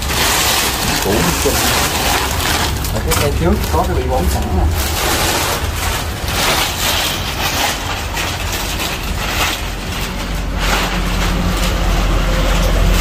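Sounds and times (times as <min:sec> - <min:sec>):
low steady rumble: 0:00.0 - 0:13.0
plastic bag rustling and crinkling: 0:00.0 - 0:13.0.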